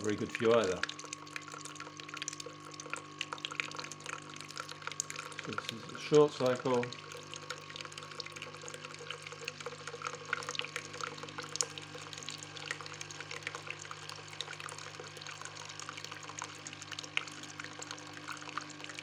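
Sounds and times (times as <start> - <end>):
coffee machine humming: 0.0 - 19.0
water trickling into a jug: 0.0 - 19.0.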